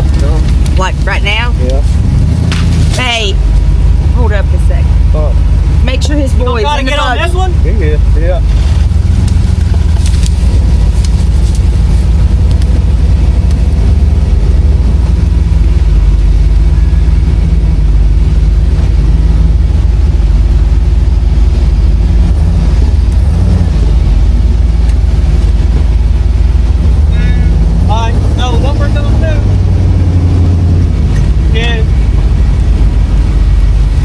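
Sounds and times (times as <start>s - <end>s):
vehicle engine low drone: 0.0s - 34.0s.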